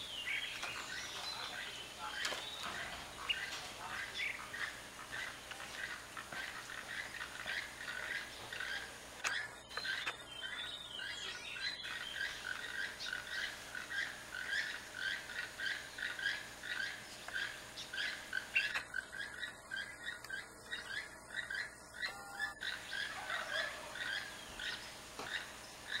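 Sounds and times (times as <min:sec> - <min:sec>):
toucans croaking calls: 0:00.0 - 0:26.0.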